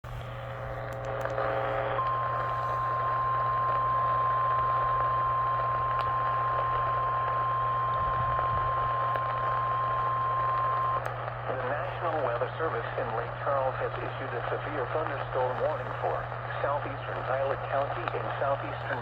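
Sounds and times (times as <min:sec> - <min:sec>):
low hum: 0:00.0 - 0:19.0
radio hiss: 0:00.1 - 0:19.0.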